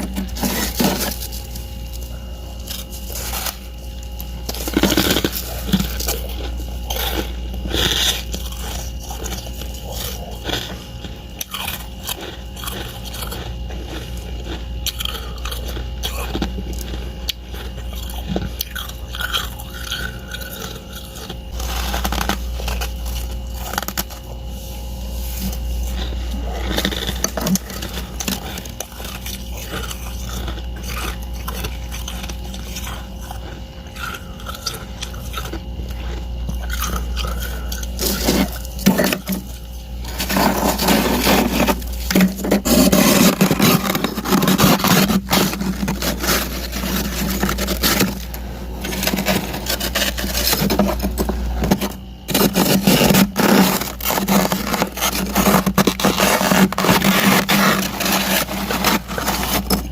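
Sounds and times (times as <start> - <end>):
freezer frost scraped and crunched: 0.0 - 59.9
steady low hum: 0.0 - 59.9.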